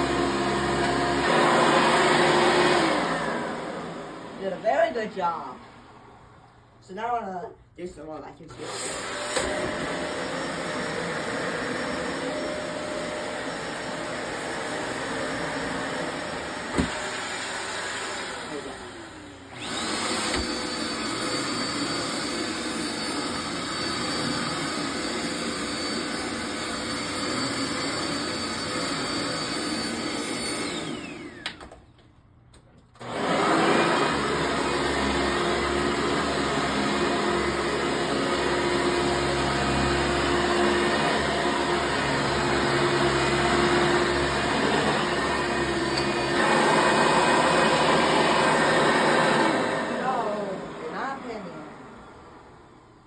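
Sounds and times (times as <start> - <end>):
vacuum cleaner high whine: 0.0 - 6.6, 8.5 - 31.8, 33.0 - 53.0
vacuum cleaner lower hum: 0.0 - 7.1, 8.5 - 31.8, 33.0 - 53.0.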